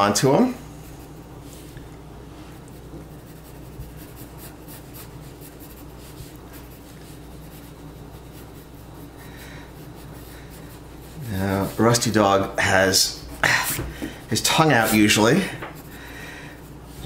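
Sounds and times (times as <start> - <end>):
steady low hum: 0.0 - 17.0
pencil scratching on paper: 0.6 - 1.8, 2.5 - 13.0, 14.4 - 17.0.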